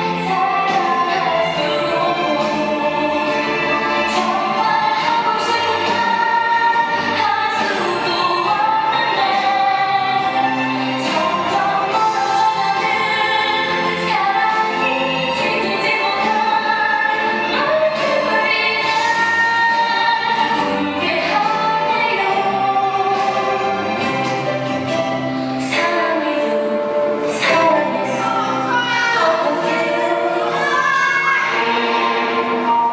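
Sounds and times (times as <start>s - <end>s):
song over loudspeakers: 0.0s - 32.9s.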